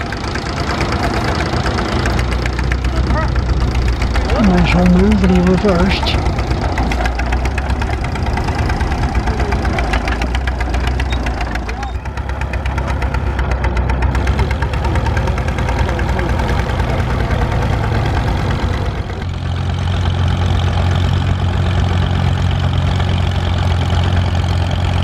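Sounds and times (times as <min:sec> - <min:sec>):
tractor engine chugging: 0:00.0 - 0:25.0.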